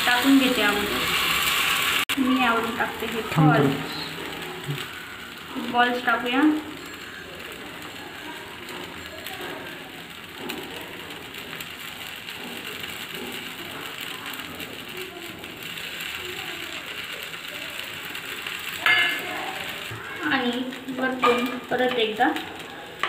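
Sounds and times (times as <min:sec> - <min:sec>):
batter sizzling and crackling: 0:00.0 - 0:23.0.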